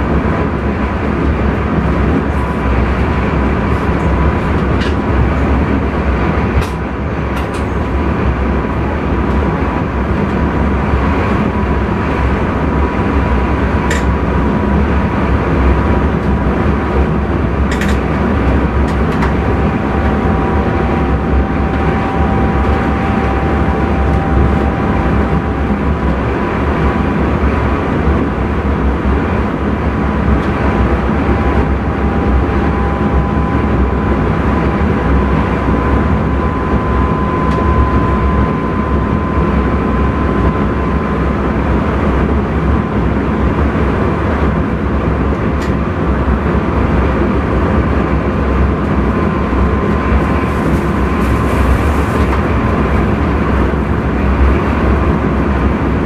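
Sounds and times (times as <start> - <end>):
faint steady whine: 0.0 - 56.0
train wheels rumbling on track: 0.0 - 56.0.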